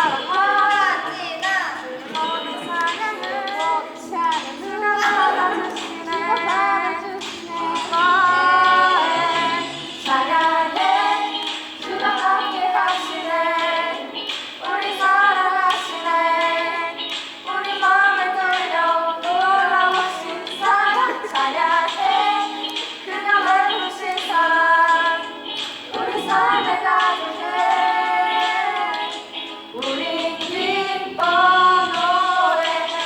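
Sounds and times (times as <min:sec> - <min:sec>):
backing music: 0:00.0 - 0:33.0
children singing: 0:00.0 - 0:33.0.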